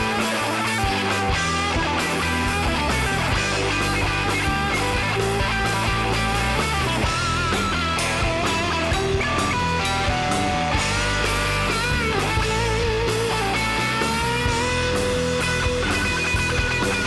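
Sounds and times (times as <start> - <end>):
lead guitar melody: 0.0 - 17.0
rock music: 0.0 - 17.0.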